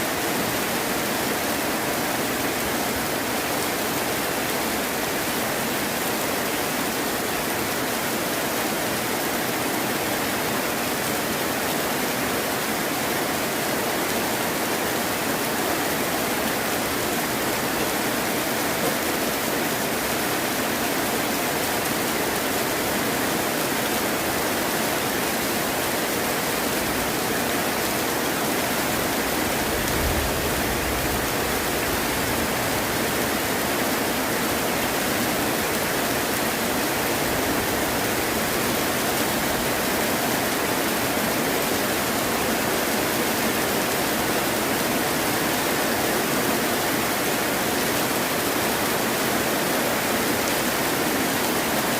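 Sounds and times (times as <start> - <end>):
heavy rain: 0.0 - 51.9.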